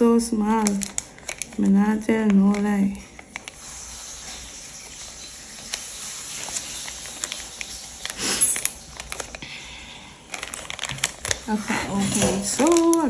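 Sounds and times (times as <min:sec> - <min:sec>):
faint steady hiss: 0:00.0 - 0:13.0
plastic bag crinkling: 0:00.0 - 0:13.0.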